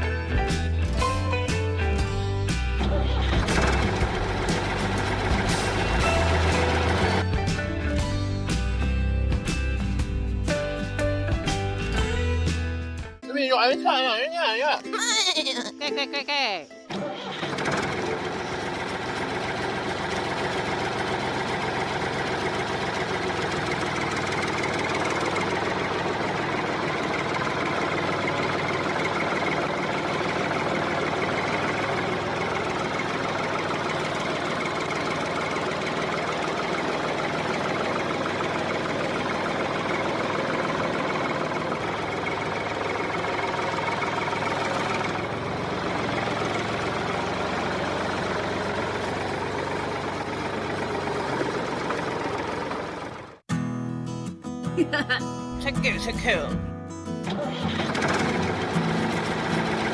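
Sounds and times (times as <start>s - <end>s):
tractor engine idling: 0.1s - 9.5s, 16.9s - 53.4s, 55.6s - 59.9s.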